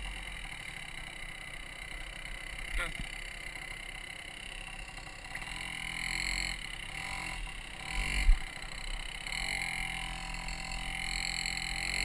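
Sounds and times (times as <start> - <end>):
two-stroke engine at low speed: 0.0 - 12.0.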